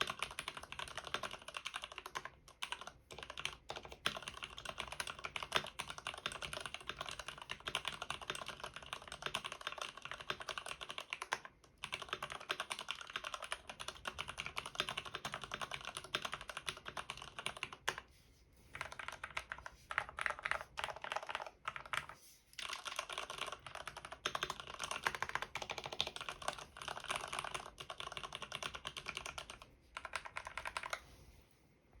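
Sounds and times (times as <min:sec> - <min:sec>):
fast typing on mechanical keyboard: 0:00.0 - 0:18.1, 0:18.7 - 0:31.0.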